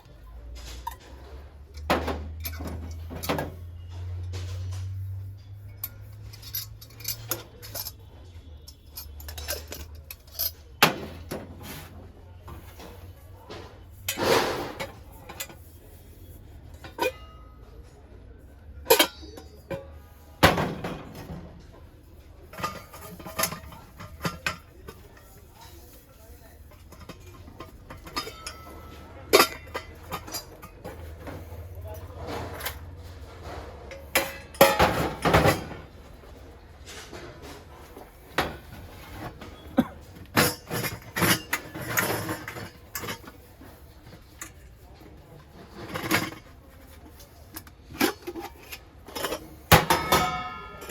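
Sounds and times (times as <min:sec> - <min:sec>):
metal vessels knocking and clinking: 0:00.4 - 0:15.8, 0:16.8 - 0:17.8, 0:18.8 - 0:50.9.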